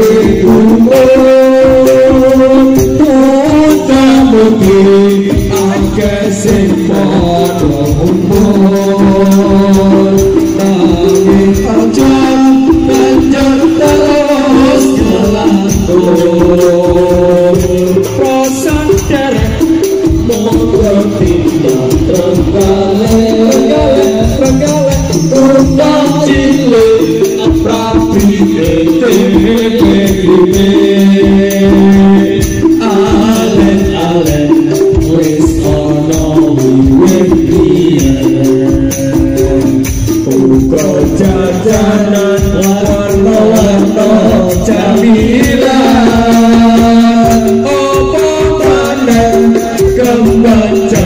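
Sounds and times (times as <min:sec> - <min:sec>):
music with percussive beat: 0:00.0 - 0:51.0.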